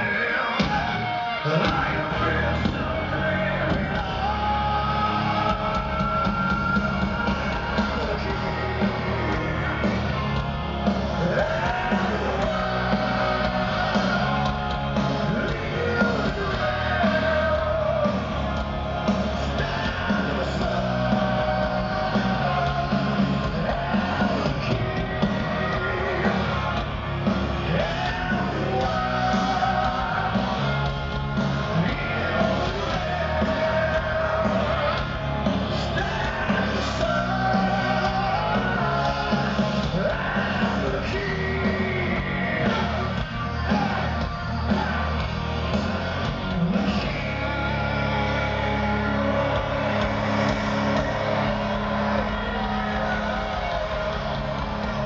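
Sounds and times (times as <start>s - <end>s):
man singing: 0.0s - 10.4s, 11.1s - 18.4s, 19.0s - 26.8s, 27.6s - 45.3s, 46.5s - 54.3s
heavy metal band playing live: 0.0s - 55.0s.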